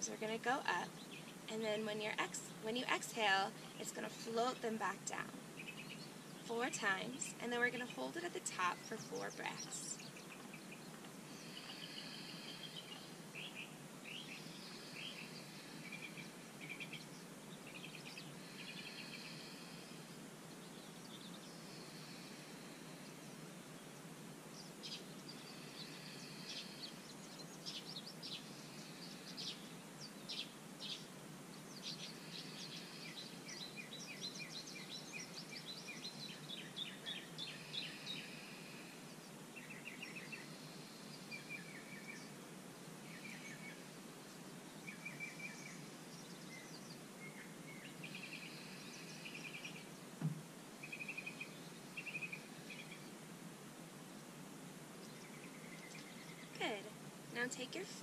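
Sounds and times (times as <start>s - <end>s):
birds singing and chirping: 0.0s - 42.4s, 43.1s - 50.0s, 55.0s - 58.0s
outdoor background hiss: 0.0s - 58.0s.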